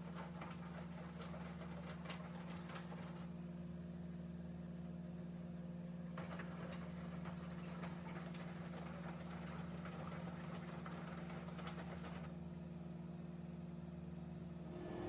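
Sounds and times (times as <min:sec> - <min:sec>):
washing machine hum: 0:00.0 - 0:03.5, 0:06.2 - 0:15.0.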